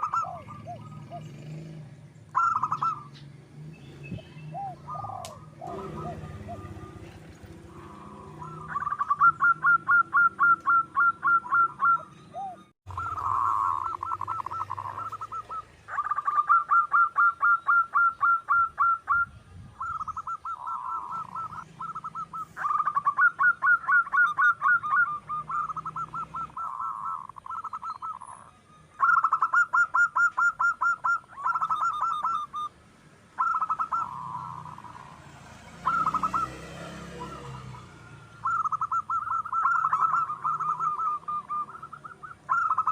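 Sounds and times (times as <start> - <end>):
dove cooing in staccato bursts: 0.0 - 3.6, 4.4 - 32.7, 33.3 - 42.9.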